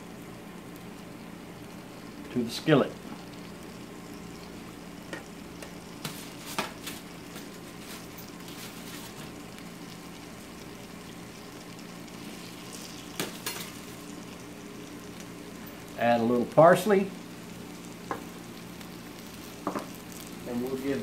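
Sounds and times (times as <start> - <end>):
sauce sizzling in a skillet: 0.0 - 21.0.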